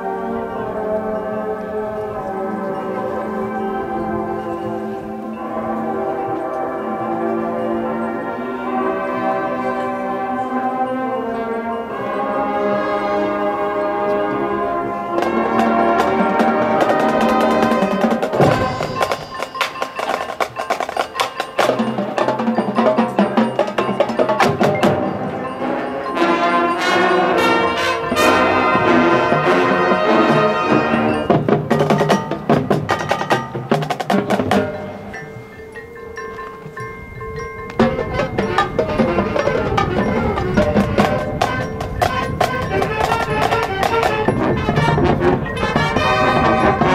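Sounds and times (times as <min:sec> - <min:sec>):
mallet percussion and chimes: 0:00.0 - 0:14.4, 0:15.1 - 0:46.9
marching band playing: 0:00.0 - 0:46.9.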